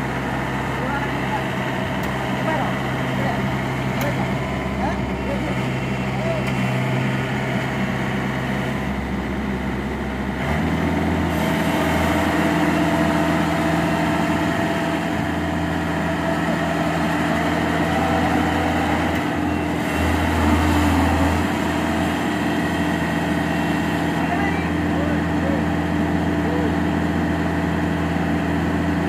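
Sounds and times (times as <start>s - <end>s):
combine harvester engine running: 0.0s - 29.0s.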